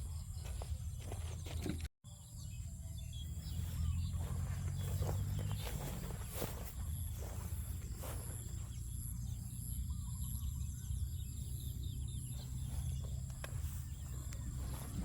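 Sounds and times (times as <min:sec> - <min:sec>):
insects droning: 0:02.1 - 0:15.0.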